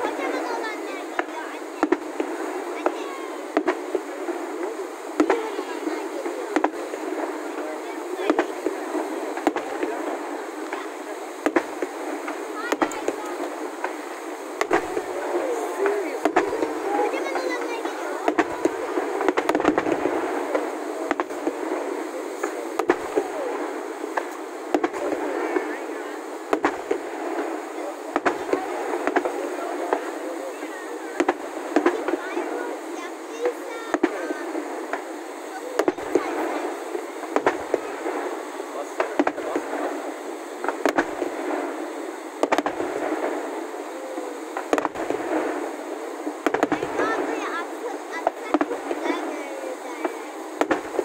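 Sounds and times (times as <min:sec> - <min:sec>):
background noise: 0:00.0 - 0:51.0
fireworks bursting: 0:00.0 - 0:51.0.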